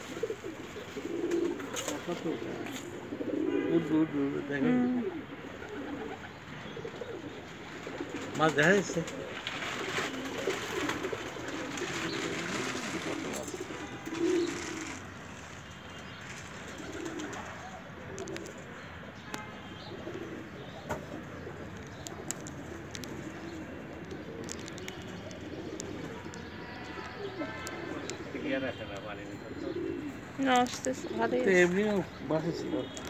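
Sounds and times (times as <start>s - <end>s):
birds cooing: 0.0s - 33.0s.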